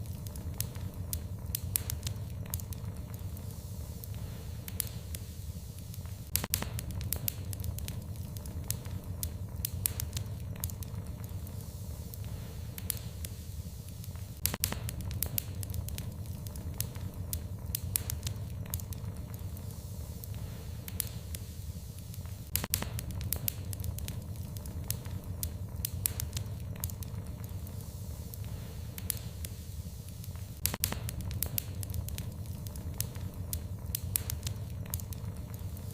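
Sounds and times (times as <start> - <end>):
low rumble of flames: 0.0 - 35.9
wood fire crackling: 0.0 - 35.9.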